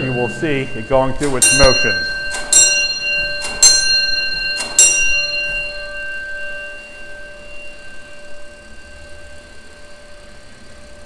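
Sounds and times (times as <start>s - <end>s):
fire alarm gong ringing: 0.0s - 11.0s.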